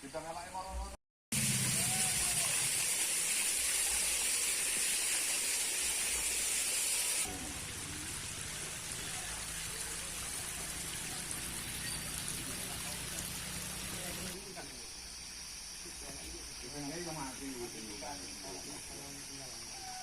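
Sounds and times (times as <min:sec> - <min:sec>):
rain hissing: 0:01.3 - 0:19.8.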